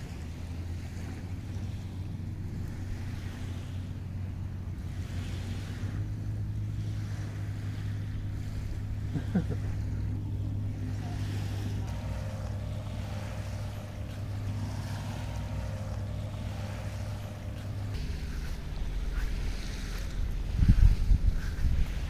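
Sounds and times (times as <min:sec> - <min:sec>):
boat engine humming: 0:00.0 - 0:22.0
wind buffeting microphone: 0:00.0 - 0:22.0.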